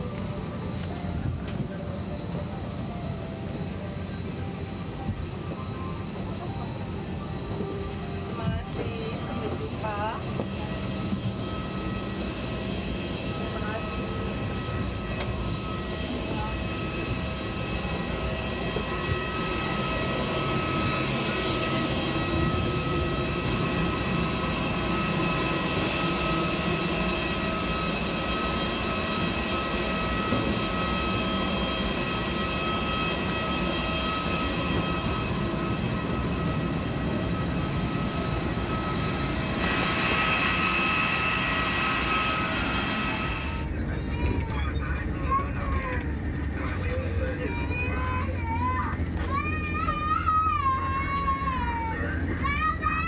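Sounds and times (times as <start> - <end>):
jet engine rumble: 0.0 - 53.0
jet engine whine: 0.0 - 53.0.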